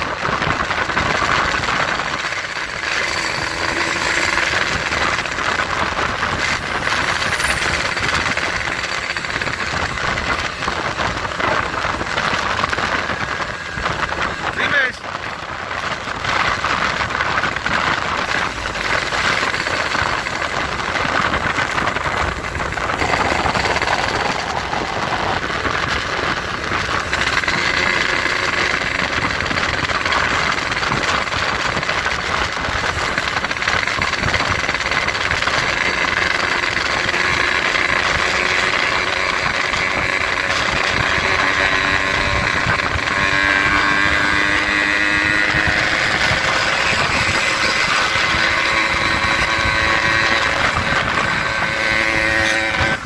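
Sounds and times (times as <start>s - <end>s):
loud motorcycle engine: 0.0s - 53.0s.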